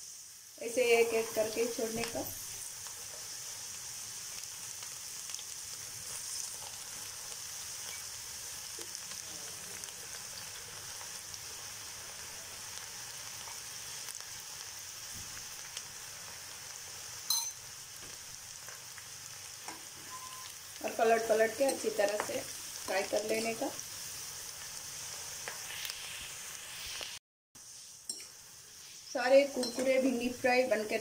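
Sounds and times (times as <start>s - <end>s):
food deep-frying in oil: 0.0s - 31.0s.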